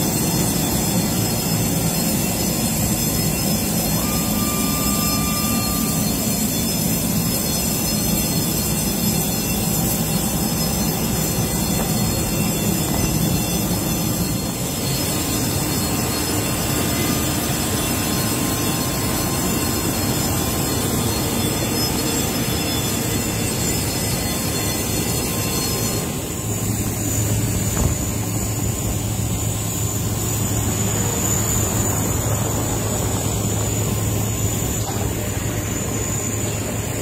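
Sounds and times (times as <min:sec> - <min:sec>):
high whine: 0:00.0 - 0:37.0
machinery drone: 0:00.0 - 0:37.0.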